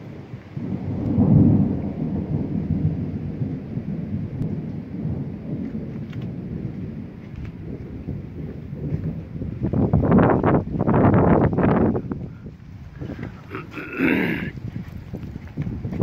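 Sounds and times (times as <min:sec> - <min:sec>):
thunder rumbling: 0:00.0 - 0:16.0.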